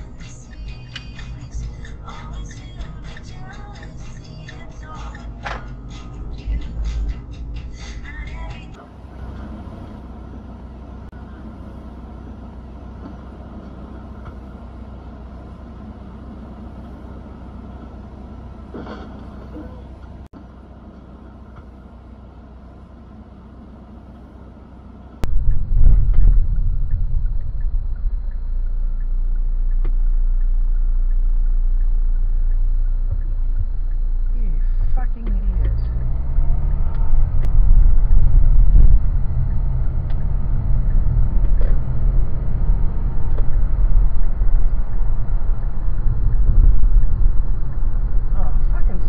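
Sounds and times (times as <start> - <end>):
road and engine noise inside car: 0.0 - 49.0.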